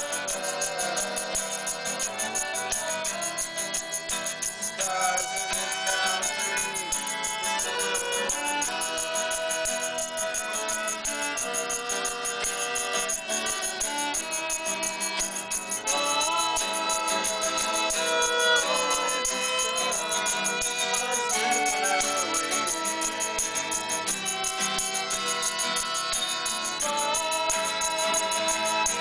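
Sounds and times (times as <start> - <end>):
acoustic instruments playing: 0.0 - 29.0
shaker rhythm: 0.0 - 29.0
violin sliding between notes: 0.0 - 29.0.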